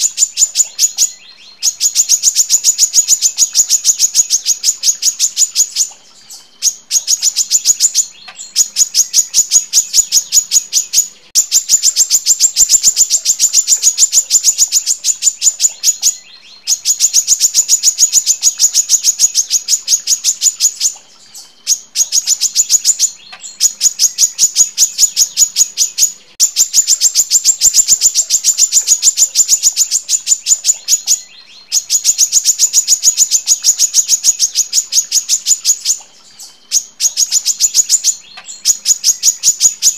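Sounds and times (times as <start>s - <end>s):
bird calling in sharp high chips: 0.0s - 39.9s.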